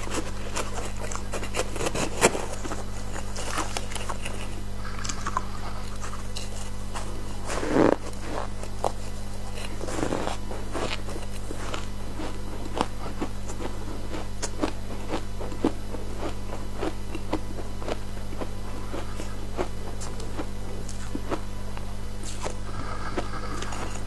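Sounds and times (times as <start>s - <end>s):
ice crunching while chewed: 0.0s - 24.0s
steady low hum: 0.0s - 24.0s.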